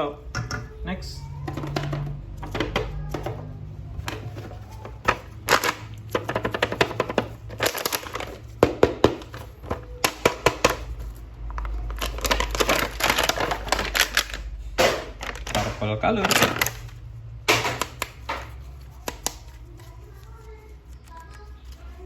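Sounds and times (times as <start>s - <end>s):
plastic packaging crinkling: 3.9s - 22.0s.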